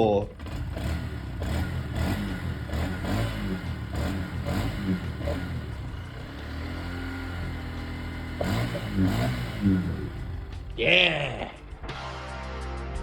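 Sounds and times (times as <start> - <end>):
motorcycle engine revving and idling: 0.0 - 11.8.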